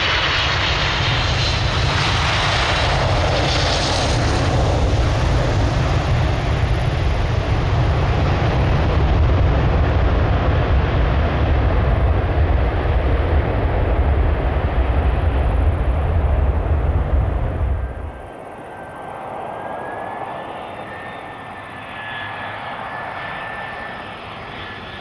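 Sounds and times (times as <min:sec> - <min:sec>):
jet airliner rolling on runway: 0:00.0 - 0:25.0.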